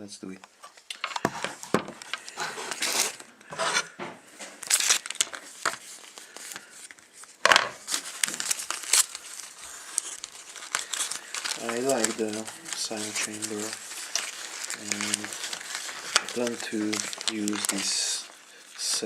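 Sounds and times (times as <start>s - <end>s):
packaging crinkling and rustling: 0.5s - 19.0s.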